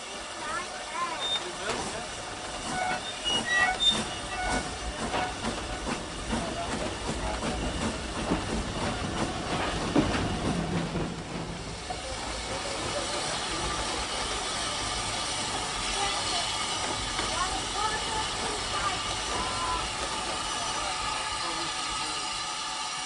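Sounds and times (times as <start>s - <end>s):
steam hissing: 0.0s - 23.0s
wheels clattering on rails: 0.4s - 20.9s.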